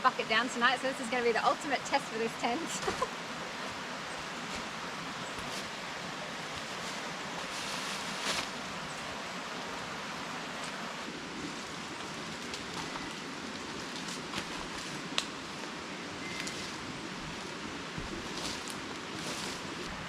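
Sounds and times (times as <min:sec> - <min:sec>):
hiss of running water: 0:01.6 - 0:20.0.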